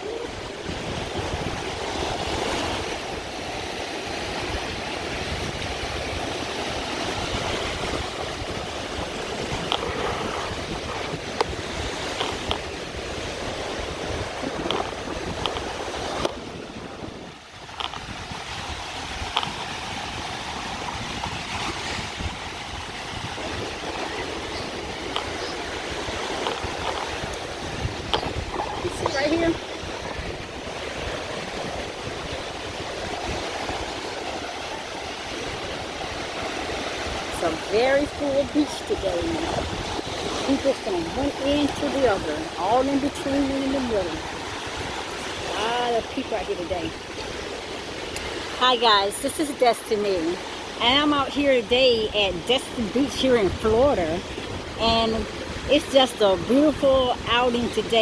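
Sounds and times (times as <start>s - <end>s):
surf breaking on beach: 0.0s - 58.0s
wind buffeting microphone: 0.0s - 58.0s.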